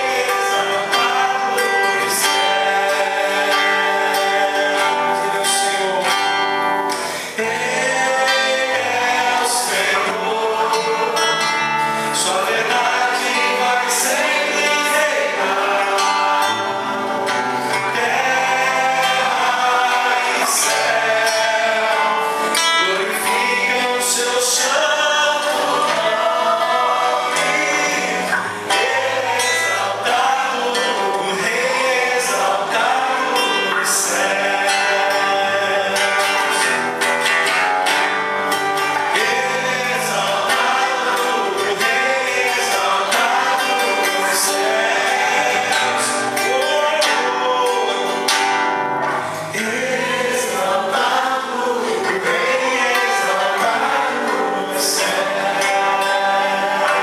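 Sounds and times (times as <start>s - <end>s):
band with guitar: 0.0s - 57.0s
people singing worship song: 0.0s - 57.0s.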